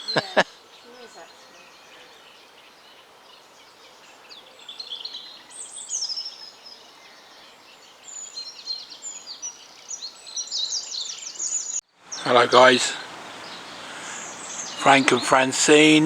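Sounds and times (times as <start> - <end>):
faint outdoor air hiss: 0.0 - 16.0
songbirds chirping and trilling: 0.0 - 16.0.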